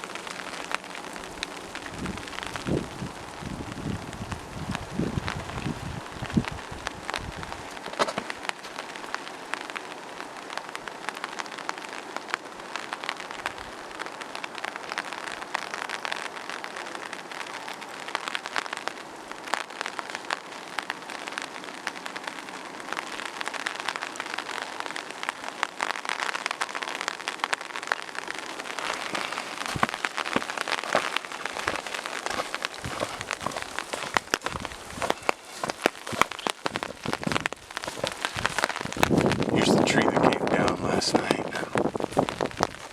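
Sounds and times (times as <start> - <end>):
rain pattering on surfaces: 0.0 - 42.9.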